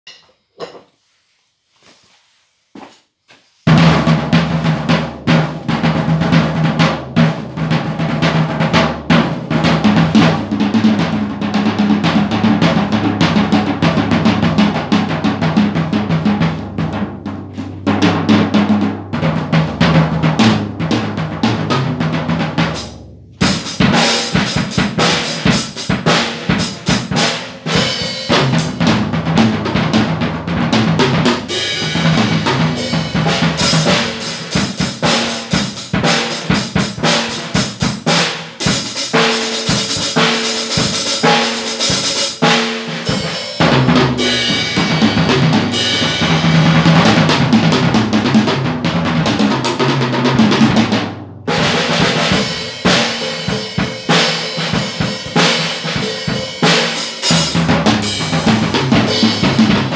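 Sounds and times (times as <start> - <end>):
drum kit playing: 3.7 - 59.9.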